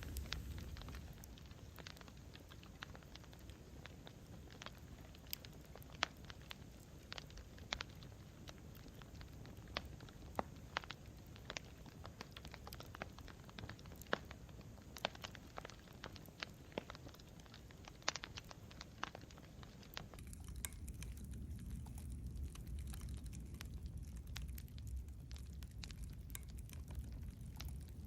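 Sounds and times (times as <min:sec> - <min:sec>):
burning wood popping and snapping: 0:00.0 - 0:28.0
low rumble of flame: 0:00.0 - 0:28.0.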